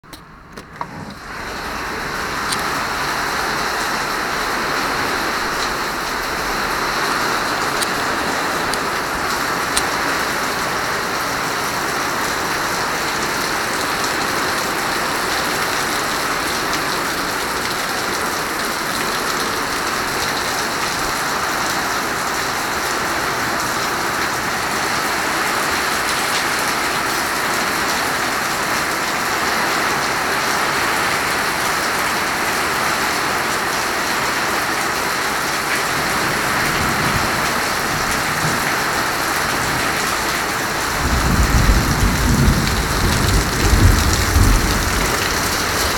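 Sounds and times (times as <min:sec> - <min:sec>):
heavy rain: 0:00.3 - 0:45.9.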